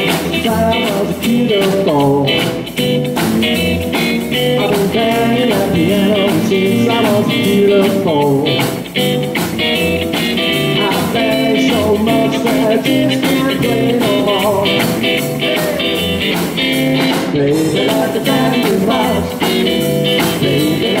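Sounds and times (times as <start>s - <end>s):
drum kit steady beat: 0.0s - 21.0s
electric guitar lead: 0.0s - 21.0s
upright bass: 0.0s - 21.0s.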